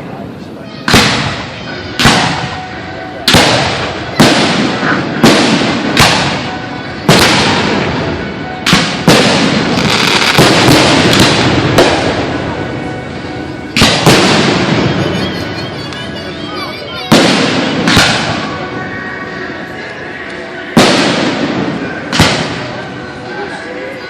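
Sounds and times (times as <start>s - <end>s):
fireworks bursting: 0.8s - 19.6s, 20.7s - 23.2s.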